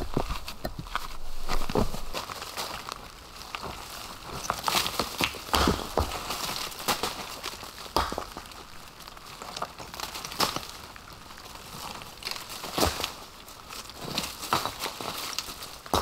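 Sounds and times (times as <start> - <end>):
dry leaves rustling and crunching: 0.0 - 16.0
twigs cracking: 0.0 - 16.0.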